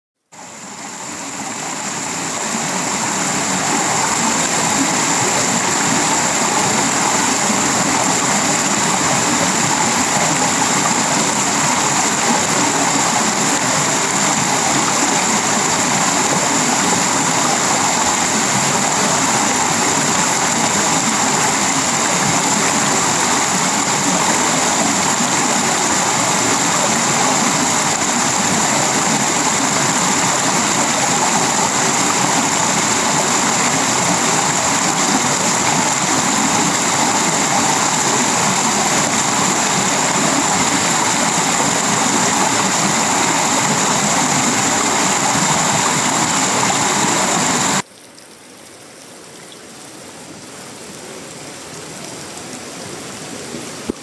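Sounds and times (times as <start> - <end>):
heavy rain on a metal roof: 1.5 - 47.9.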